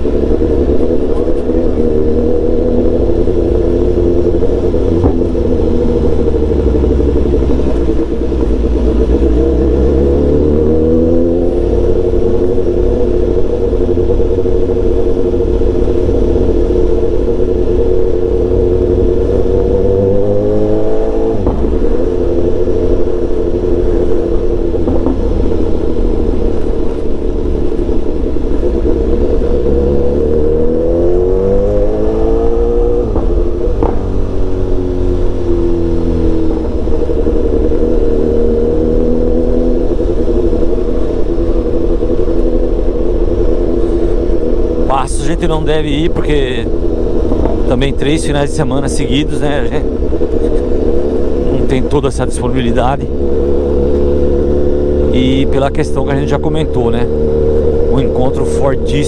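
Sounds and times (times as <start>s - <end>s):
low rumble: 0.0s - 59.0s
motorcycle engine accelerating: 0.0s - 59.0s.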